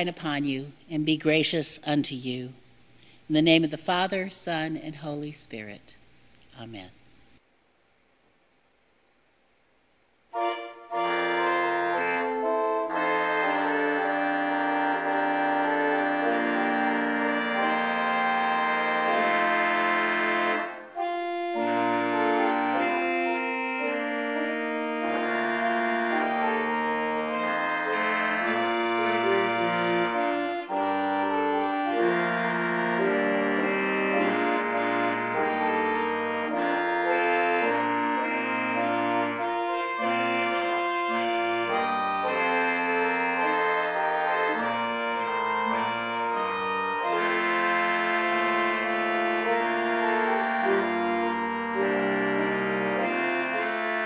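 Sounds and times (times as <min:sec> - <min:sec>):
organ playing slow chords: 0:10.3 - 0:54.0.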